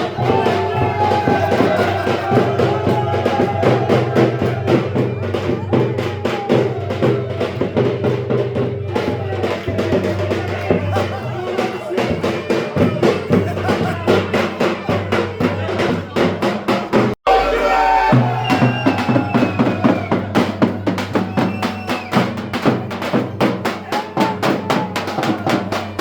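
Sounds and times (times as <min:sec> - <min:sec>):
fast drum beat: 0:00.0 - 0:26.0.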